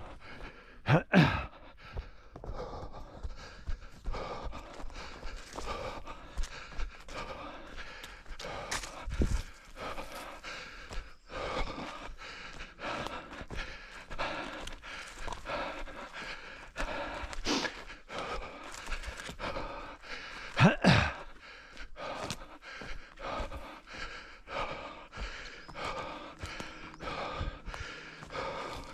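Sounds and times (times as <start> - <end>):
runner breathing hard: 0.0 - 28.9
voiced gasp: 0.0 - 28.9.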